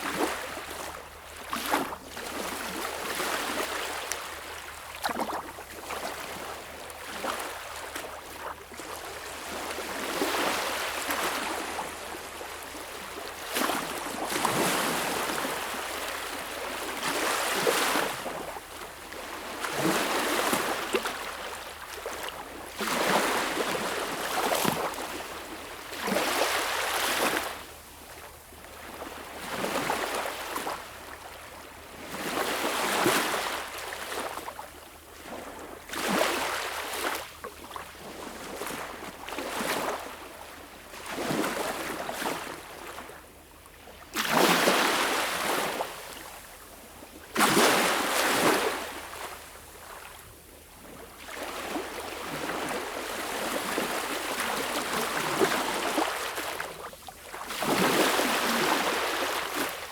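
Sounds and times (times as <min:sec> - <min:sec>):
small waves breaking on beach: 0:00.0 - 0:28.2, 0:35.2 - 0:43.2, 0:44.1 - 0:46.5, 0:47.2 - 0:50.2, 0:50.8 - 0:59.9.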